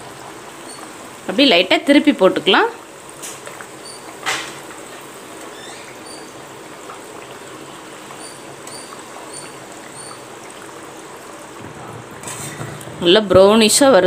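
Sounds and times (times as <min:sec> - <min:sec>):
dough deep-frying in oil: 0:00.0 - 0:14.0.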